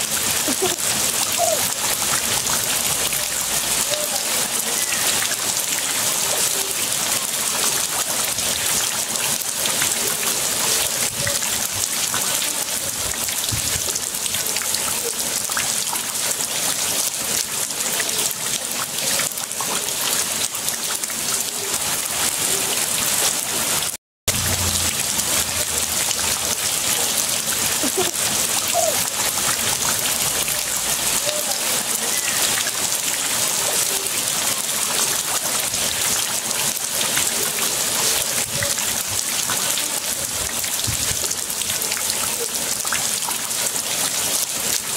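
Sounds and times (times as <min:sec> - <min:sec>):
heavy rain splashing into water: 0:00.0 - 0:44.9.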